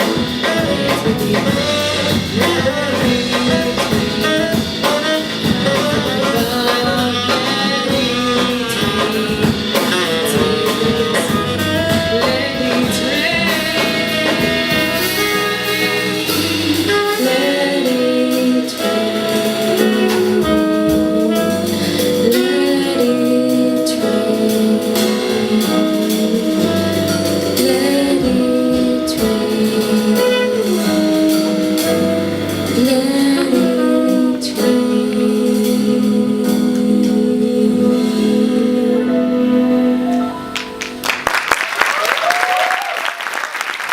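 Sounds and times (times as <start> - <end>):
tenor saxophone melody: 0.0 - 40.8
jazz-pop band playing: 0.0 - 43.9.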